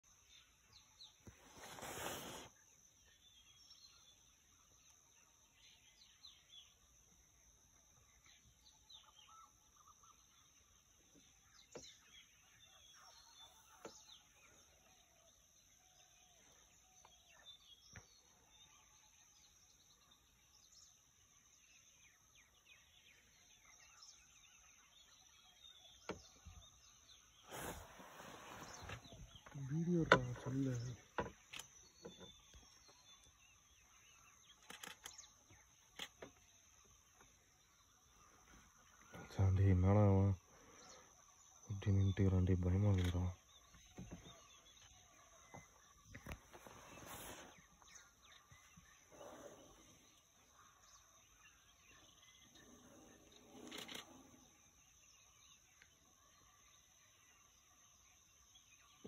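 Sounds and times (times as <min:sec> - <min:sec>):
faint bird chirps: 0:00.0 - 0:59.0.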